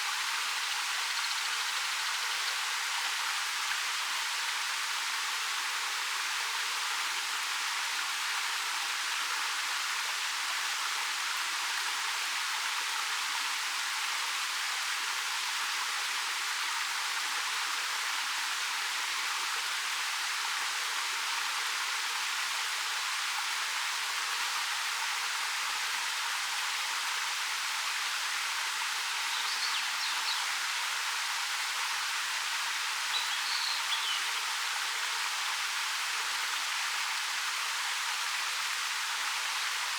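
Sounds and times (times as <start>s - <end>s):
waterfall pouring over rock: 0.1s - 39.9s.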